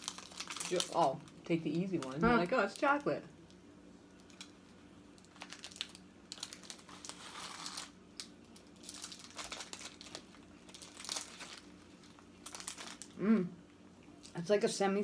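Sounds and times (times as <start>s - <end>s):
foil wrapper crinkling: 0.0s - 13.2s.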